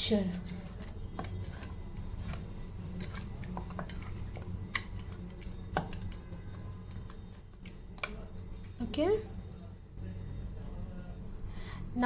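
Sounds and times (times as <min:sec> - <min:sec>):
wet squelching of marinade: 0:00.0 - 0:09.8.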